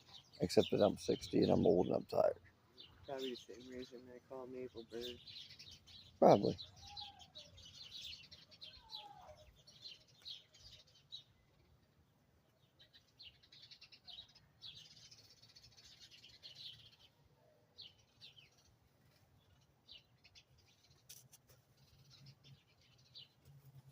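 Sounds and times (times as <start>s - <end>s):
faint high-pitched chirping: 0.0s - 23.9s.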